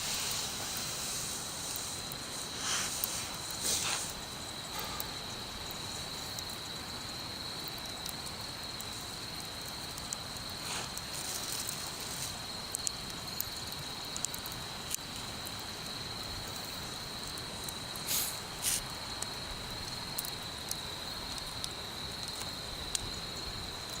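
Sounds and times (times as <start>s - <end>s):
high-pitched insect trill: 0.0s - 24.0s
wood fire crackling and popping: 0.0s - 24.0s.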